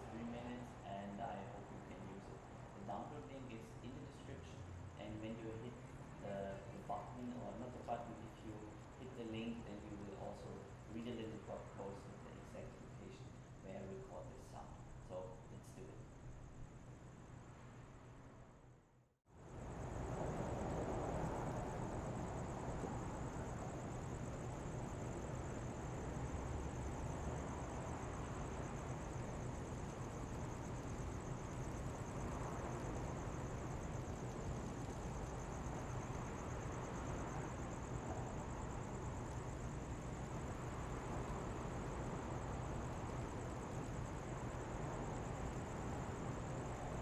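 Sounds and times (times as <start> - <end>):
distant traffic: 0.0 - 18.6, 19.4 - 47.0.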